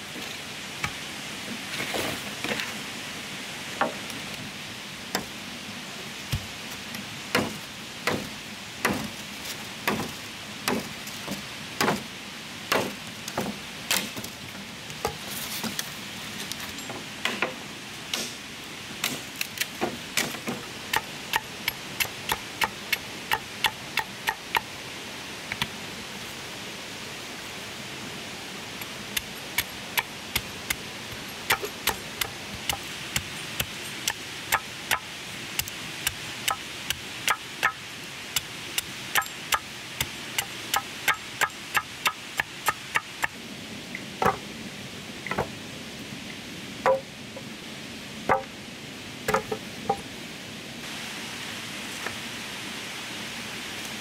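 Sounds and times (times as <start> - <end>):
steady hiss: 0.0 - 54.0.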